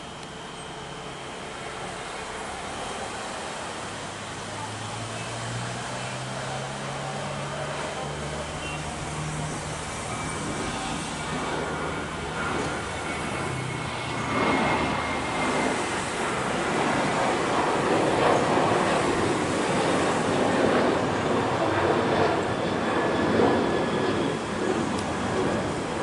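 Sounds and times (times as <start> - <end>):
jet airliner taking off: 0.0 - 26.0.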